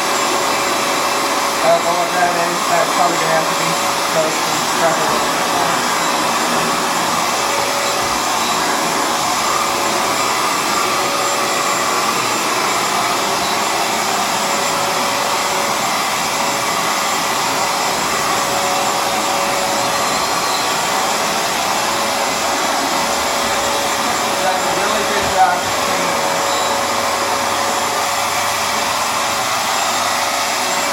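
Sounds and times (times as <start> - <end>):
floor cleaner suction motor whine: 0.0 - 30.9.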